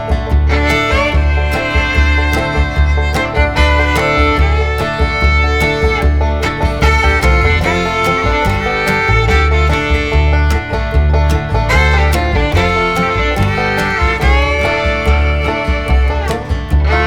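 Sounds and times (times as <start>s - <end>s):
banjo: 0.0s - 17.0s
fiddle: 0.0s - 17.0s
guitar: 0.0s - 17.0s
steady bass beat: 0.0s - 17.0s.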